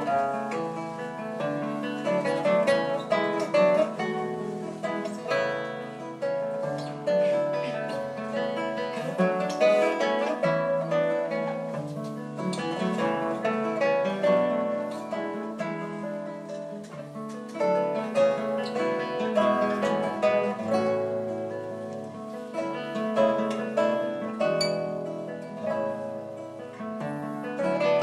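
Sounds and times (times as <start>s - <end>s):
classical guitar duet: 0.0s - 28.0s.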